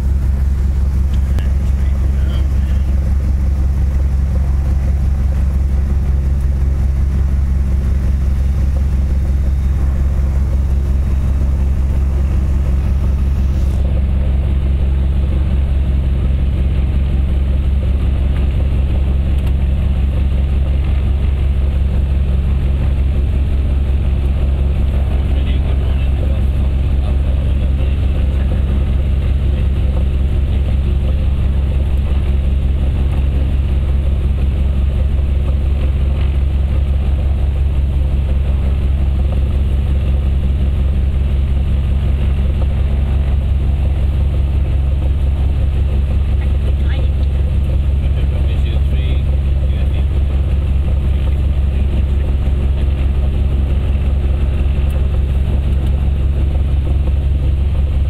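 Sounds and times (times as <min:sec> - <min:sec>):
propeller plane engine idling: 0:00.0 - 0:58.0.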